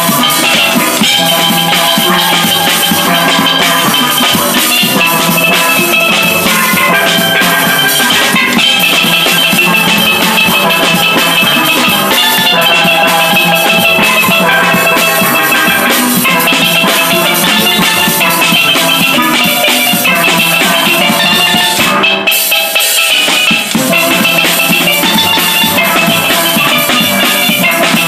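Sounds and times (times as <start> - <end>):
steel band playing: 0.0 - 28.0.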